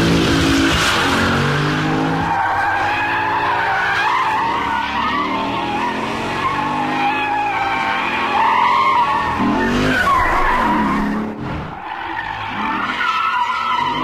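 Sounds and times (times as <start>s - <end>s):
car engine revving hard: 0.0s - 11.7s
tyres squealing: 2.0s - 14.0s.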